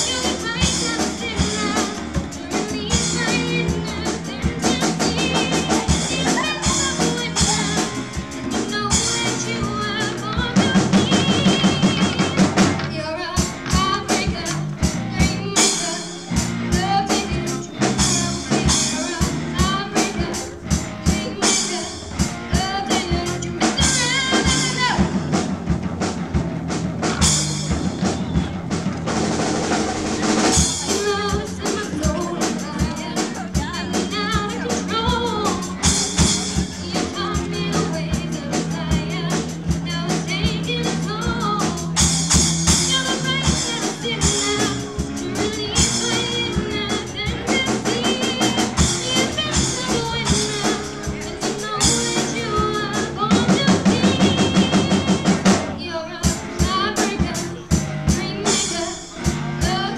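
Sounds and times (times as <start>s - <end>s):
girl singing into a microphone: 0.0s - 25.1s, 30.4s - 59.9s
bass guitar: 0.0s - 59.9s
drum kit: 0.0s - 59.9s
electric guitar: 0.0s - 59.9s.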